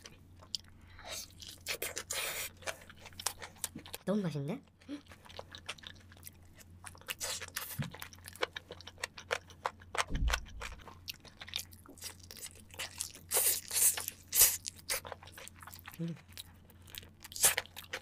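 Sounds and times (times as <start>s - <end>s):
chewing with crisp crunches: 0.0s - 18.0s.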